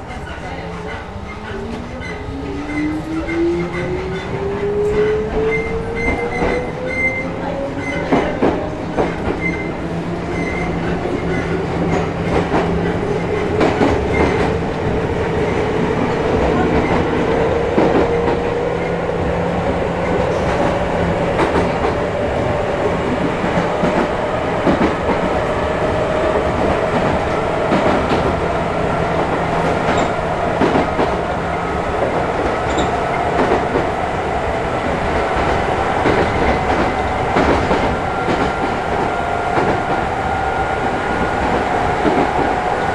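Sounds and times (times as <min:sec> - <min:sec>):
train running gear rumble: 0:00.0 - 0:42.9
wheels clicking over rail joints: 0:00.1 - 0:42.9.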